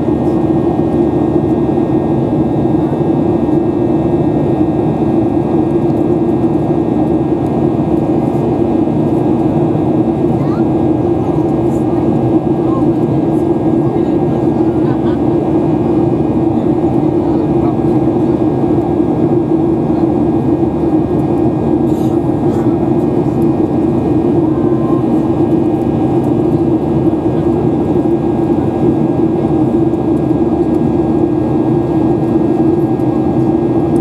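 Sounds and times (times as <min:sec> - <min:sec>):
jet engines heard in cabin: 0:00.0 - 0:34.0.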